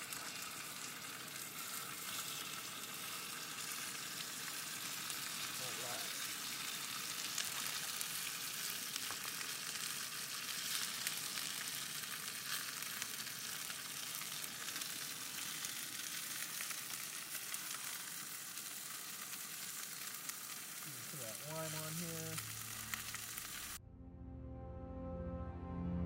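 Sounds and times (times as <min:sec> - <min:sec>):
fish searing in hot oil: 0:00.0 - 0:23.8.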